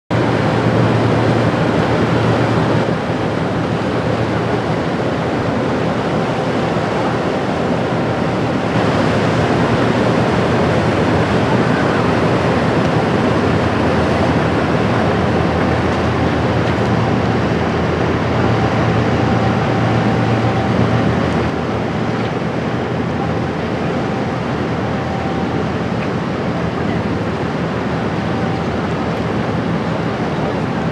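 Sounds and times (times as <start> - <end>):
diesel engine drone: 0.1 - 30.9
river water rushing: 0.1 - 30.9
wind: 0.1 - 30.9.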